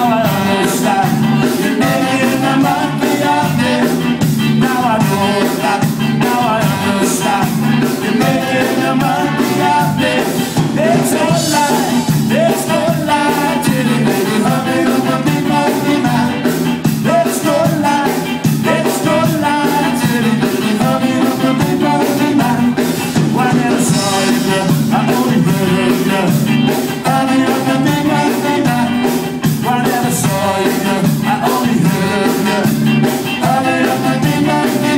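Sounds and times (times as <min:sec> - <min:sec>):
drums on a steady beat: 0:00.0 - 0:34.9
electric guitars: 0:00.0 - 0:34.9
person singing: 0:00.0 - 0:34.9.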